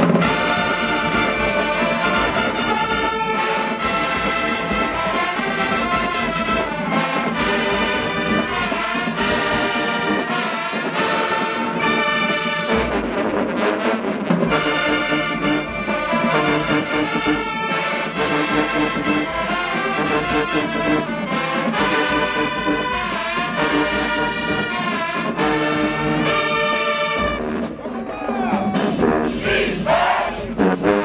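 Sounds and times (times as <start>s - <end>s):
brass horn section playing chords: 0.0s - 27.8s, 28.7s - 31.0s.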